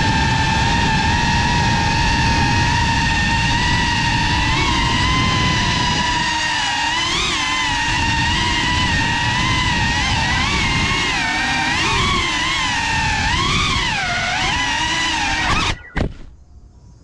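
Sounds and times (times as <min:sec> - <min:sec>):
rush of propeller wash: 0:00.0 - 0:15.8
drone motors whining: 0:00.0 - 0:17.0.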